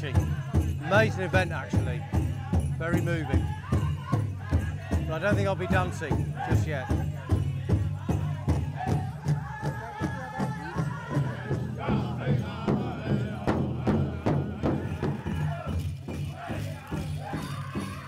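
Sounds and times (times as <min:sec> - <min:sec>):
large drum beating: 0:00.0 - 0:18.0
men singing high chant: 0:00.0 - 0:18.0.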